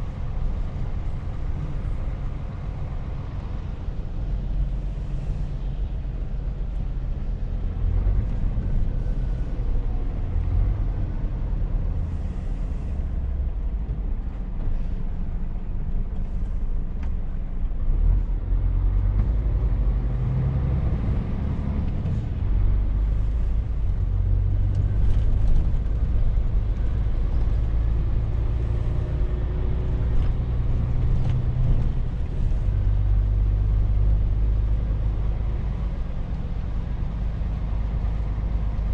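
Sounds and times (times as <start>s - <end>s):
road noise: 0.0s - 38.9s
truck diesel engine drone: 0.0s - 38.9s.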